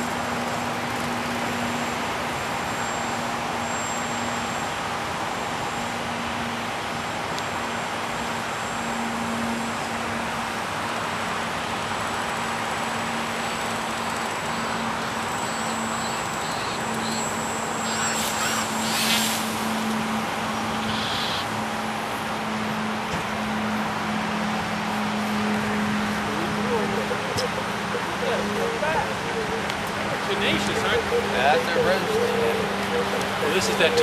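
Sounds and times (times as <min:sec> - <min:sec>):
road traffic noise: 0:00.0 - 0:34.0.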